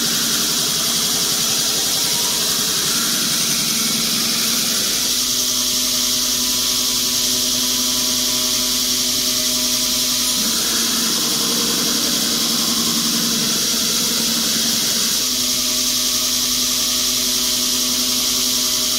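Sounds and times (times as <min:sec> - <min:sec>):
belt grinder motor running: 0:00.0 - 0:17.3.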